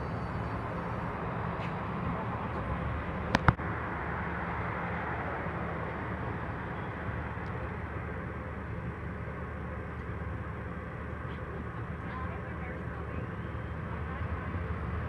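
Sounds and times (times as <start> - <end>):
light-rail train rumble and hum: 0.0 - 15.0.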